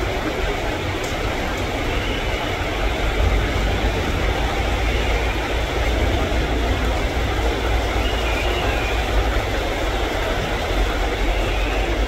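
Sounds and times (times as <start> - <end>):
heavy rain: 0.0 - 12.0
low rumble of train: 0.0 - 12.0.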